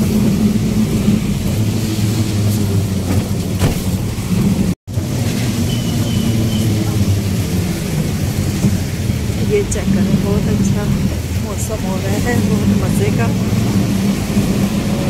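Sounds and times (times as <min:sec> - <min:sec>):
auto-rickshaw engine running: 0:00.0 - 0:15.0.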